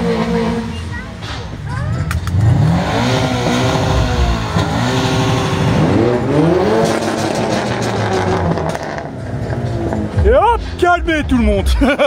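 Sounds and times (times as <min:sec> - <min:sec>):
car engine revving: 0:00.0 - 0:01.0, 0:02.1 - 0:12.0.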